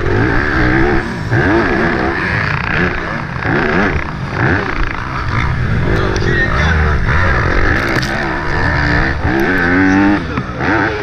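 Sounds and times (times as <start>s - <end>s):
motocross engine revving hard: 0.0s - 11.0s.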